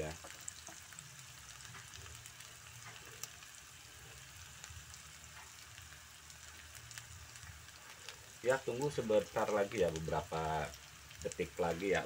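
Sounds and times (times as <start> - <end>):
fish frying in oil: 0.0 - 12.0
small crackles and pops of oil: 0.0 - 12.0.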